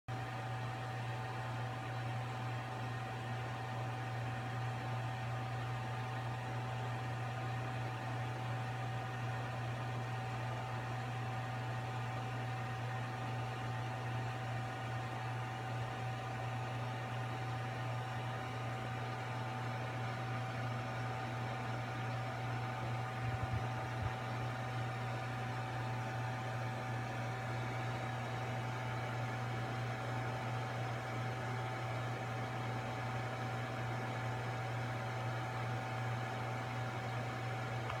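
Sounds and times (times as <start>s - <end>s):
steady hum with high whine: 0.2s - 38.0s.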